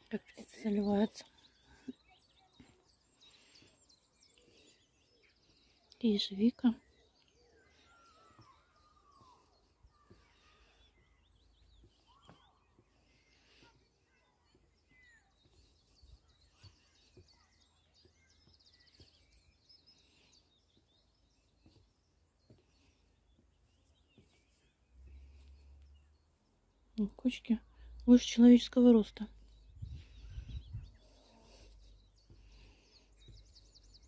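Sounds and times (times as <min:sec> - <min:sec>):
faint songbird chirps and trills: 0:00.0 - 0:34.0.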